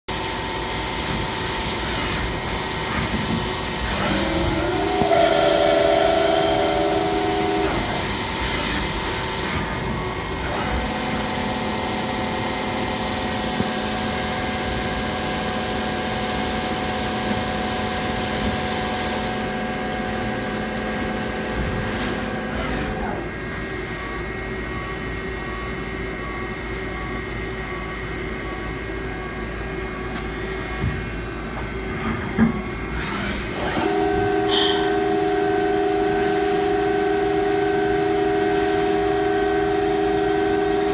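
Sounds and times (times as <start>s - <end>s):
lathe machine whine: 0.1s - 40.9s.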